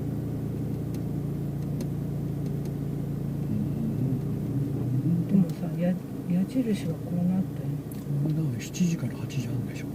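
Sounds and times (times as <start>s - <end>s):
car engine and road hum: 0.0s - 9.9s.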